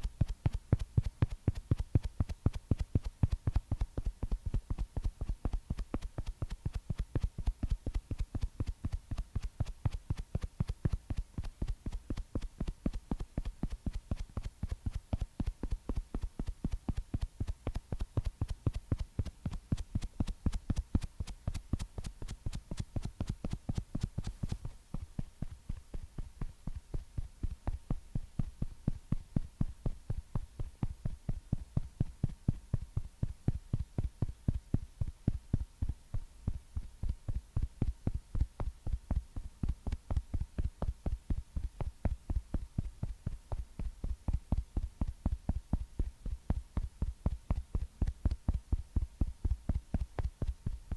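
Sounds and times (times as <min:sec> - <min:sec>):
soft thudding pats: 0:00.0 - 0:50.8.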